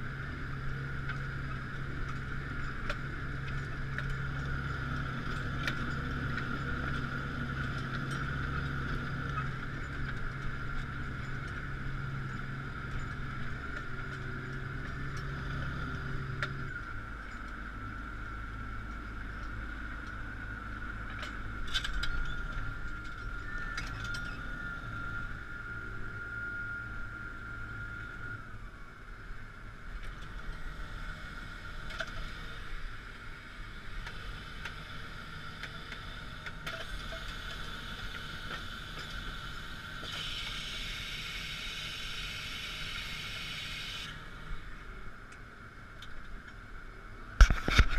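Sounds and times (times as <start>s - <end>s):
high-pitched whine: 0.0s - 47.9s
tractor engine drone: 0.0s - 47.9s.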